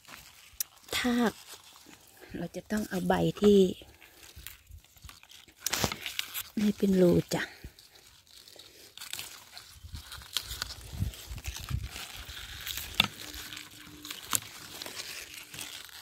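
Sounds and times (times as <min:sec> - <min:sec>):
onion leaves rustling: 0:00.0 - 0:16.0.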